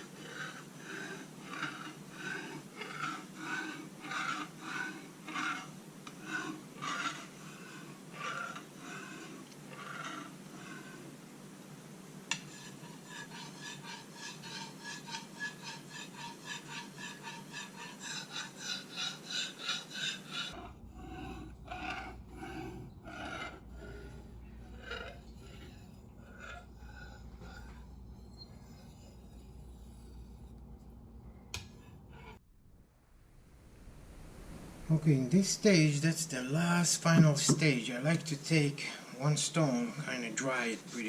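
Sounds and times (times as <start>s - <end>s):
knife scraping on whetstone: 0.0s - 11.2s, 12.2s - 32.4s, 35.4s - 41.0s.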